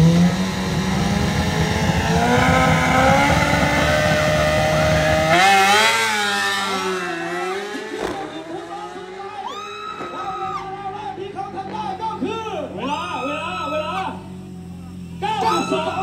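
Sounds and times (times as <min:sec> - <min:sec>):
superbike engine accelerating: 0:00.0 - 0:16.0.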